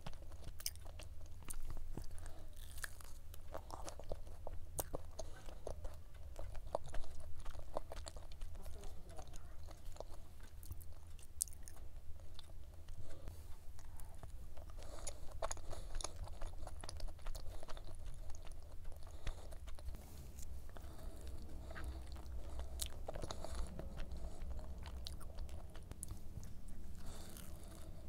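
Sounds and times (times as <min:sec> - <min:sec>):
chewing flaky pastry: 0:00.0 - 0:28.0.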